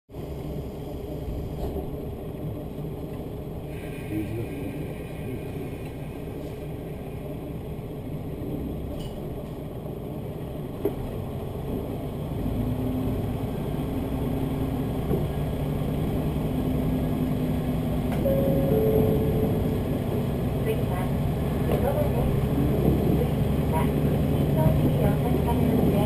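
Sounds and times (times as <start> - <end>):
diesel railcar engine drone: 0.1 - 26.0.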